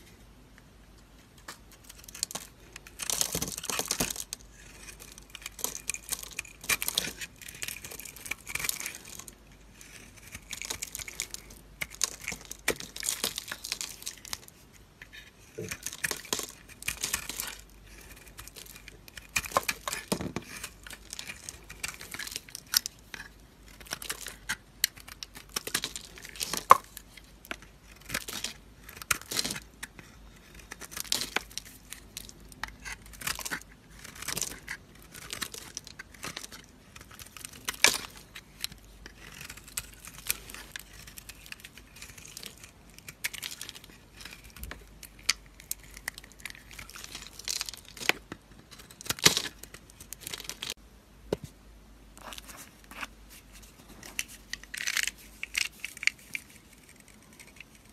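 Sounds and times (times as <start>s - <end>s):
knife scraping soap: 1.8s - 49.6s.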